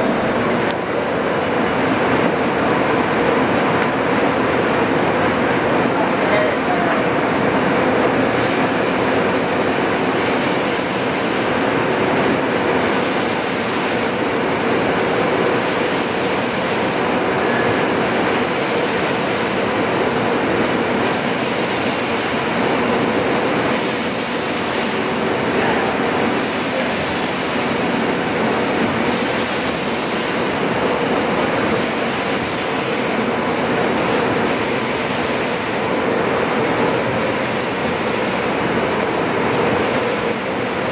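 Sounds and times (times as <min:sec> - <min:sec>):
printing press mechanical hum: 0:00.0 - 0:40.9.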